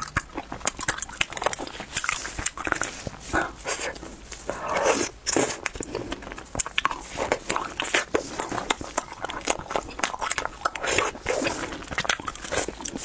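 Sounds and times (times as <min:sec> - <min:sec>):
chewing soft candy: 0:00.0 - 0:13.0.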